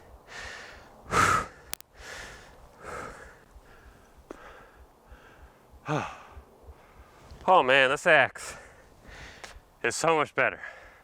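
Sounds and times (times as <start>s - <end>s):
man breathing heavily: 0.0s - 7.4s, 8.4s - 9.6s, 10.6s - 11.0s.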